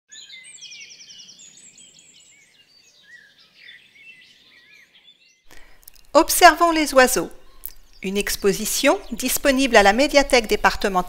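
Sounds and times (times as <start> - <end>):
songbirds chirping and trilling: 0.1 - 11.0.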